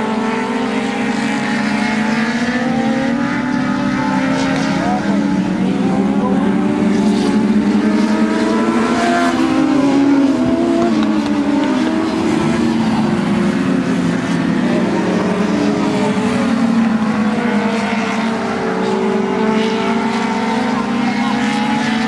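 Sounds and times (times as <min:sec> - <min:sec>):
race car engines running hard: 0:00.0 - 0:22.0.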